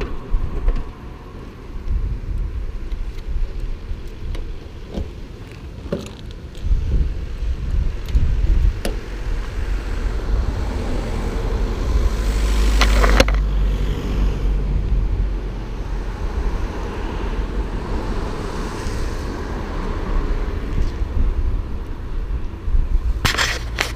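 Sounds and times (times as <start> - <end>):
car engine and road noise: 0.0 - 23.9.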